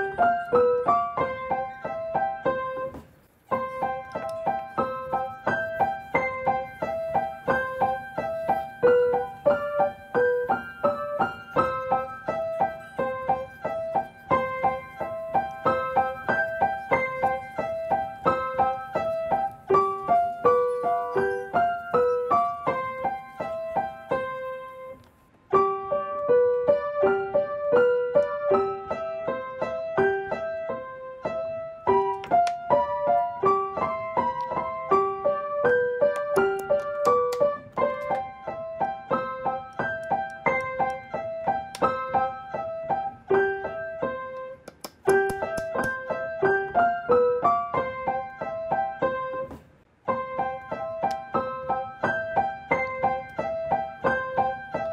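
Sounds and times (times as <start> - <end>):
light piano melody: 0.0 - 54.9.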